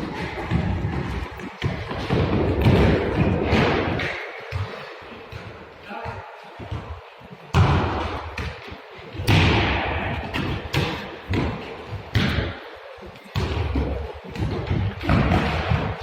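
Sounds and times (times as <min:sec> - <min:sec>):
ball impacts echoing in hall: 0:00.0 - 0:16.0.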